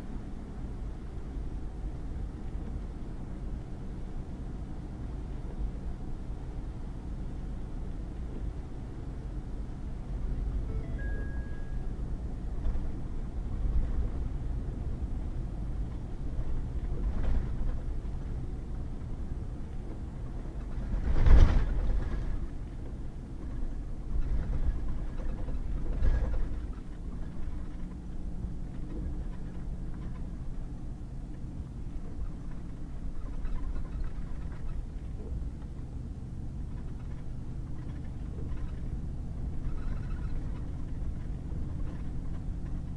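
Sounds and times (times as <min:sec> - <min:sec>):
truck engine and tyres rumbling: 0:00.0 - 0:42.9.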